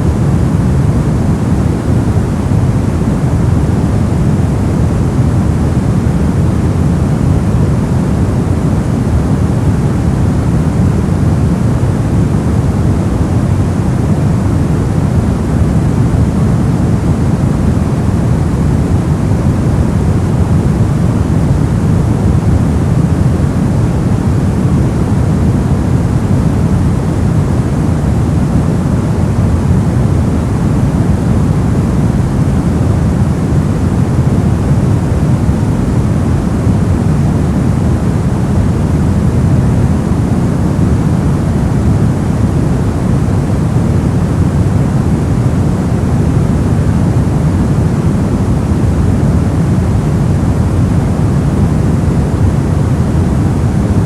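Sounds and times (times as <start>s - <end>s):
white noise rush: 0.0s - 54.0s.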